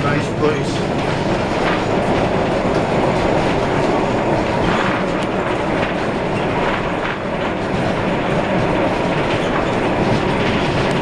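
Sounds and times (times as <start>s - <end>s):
streetcar wheels rumbling on rails: 0.0s - 11.0s
wheels clicking over track: 0.0s - 11.0s.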